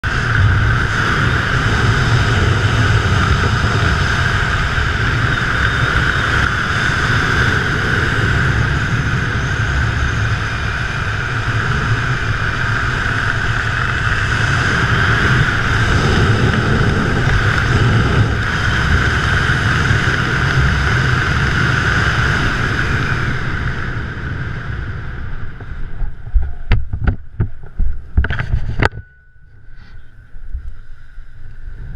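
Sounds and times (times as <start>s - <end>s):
wind rushing over microphone: 0.0s - 31.9s.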